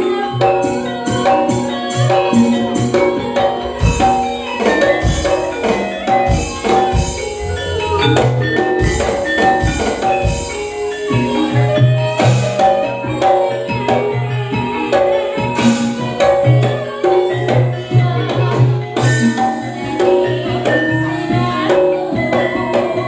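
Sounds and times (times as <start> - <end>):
instrumental ensemble with drums: 0.0 - 23.0.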